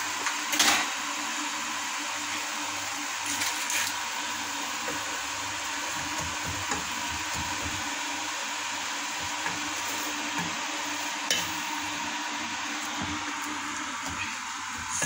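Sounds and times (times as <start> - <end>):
vegetables sizzling in a pot: 0.0 - 15.0.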